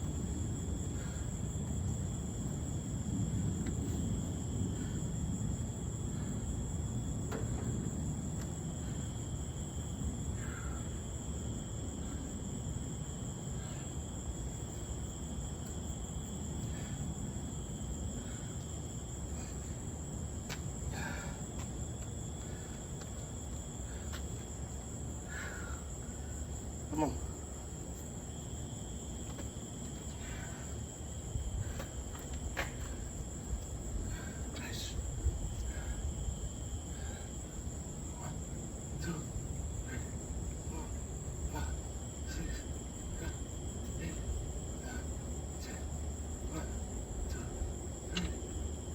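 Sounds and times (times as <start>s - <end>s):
crickets droning: 0.0s - 48.9s
steady low rumble: 0.0s - 48.9s.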